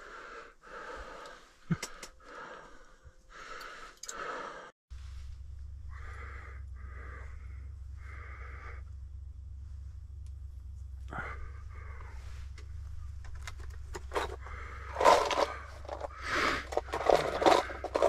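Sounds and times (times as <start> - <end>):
man breathing heavily and sniffing: 0.0 - 9.9, 11.0 - 13.2, 13.8 - 18.0
steady low hum: 0.0 - 18.0.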